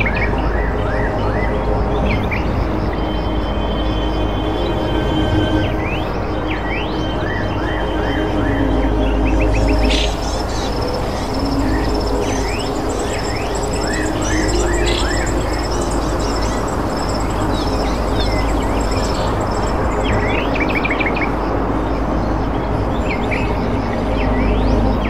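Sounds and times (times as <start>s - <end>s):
birds chirping: 0.0s - 25.0s
steady background rush: 0.0s - 25.0s.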